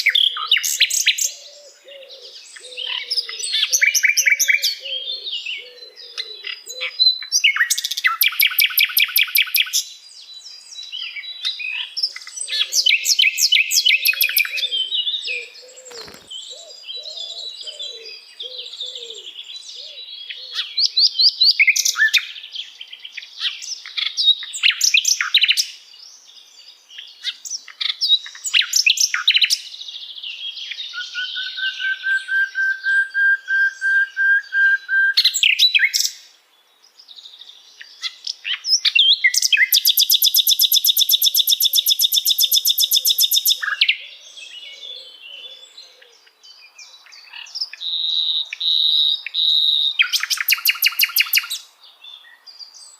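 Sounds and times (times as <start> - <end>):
nightingale singing: 0.0 - 52.9.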